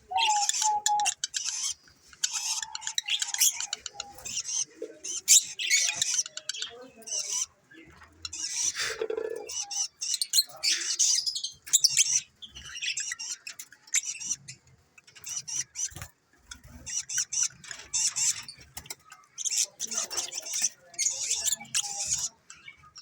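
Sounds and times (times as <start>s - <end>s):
lovebirds chirping and squeaking: 0.0s - 23.0s.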